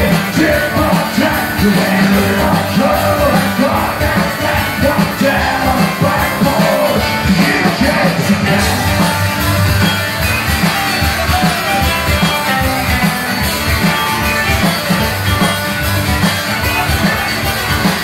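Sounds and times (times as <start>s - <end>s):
electric guitars: 0.0s - 18.0s
steady drum beat: 0.0s - 18.0s.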